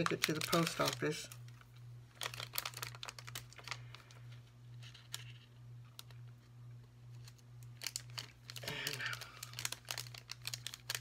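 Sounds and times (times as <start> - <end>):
cellophane bag crinkling: 0.0 - 6.3, 7.1 - 11.0
steady low hum: 0.0 - 11.0.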